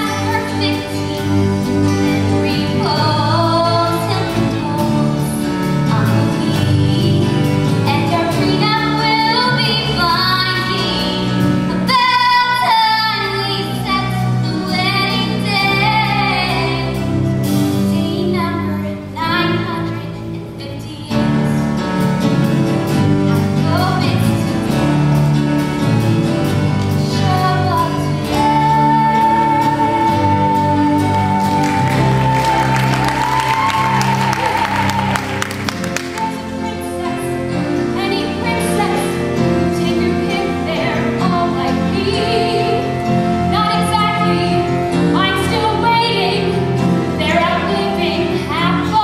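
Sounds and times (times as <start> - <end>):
woman singing: 0.0 - 17.1, 17.9 - 21.6, 27.0 - 49.0
instrumental accompaniment: 0.0 - 49.0.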